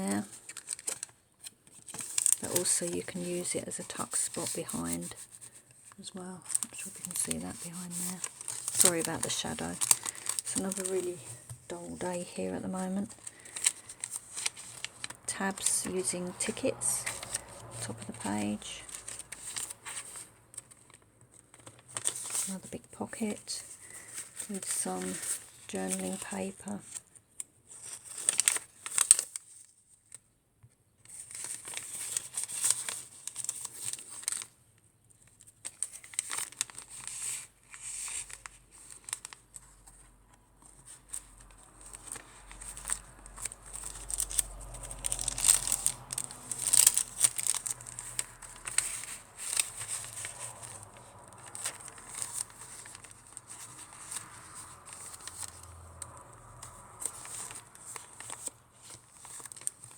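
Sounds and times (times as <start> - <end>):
paper rustling and crinkling: 0.0 - 59.9.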